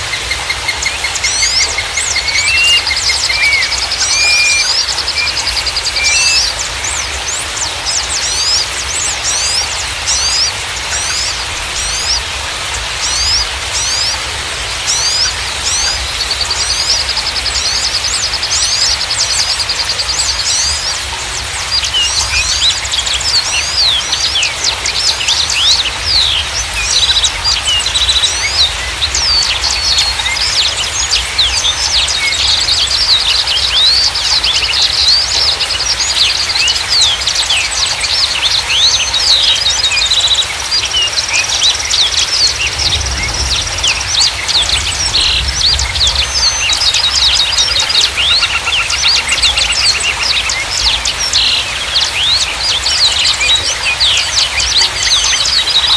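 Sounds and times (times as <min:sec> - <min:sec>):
songbirds chirping: 0:00.0 - 0:55.9
steady rushing noise: 0:00.0 - 0:55.9.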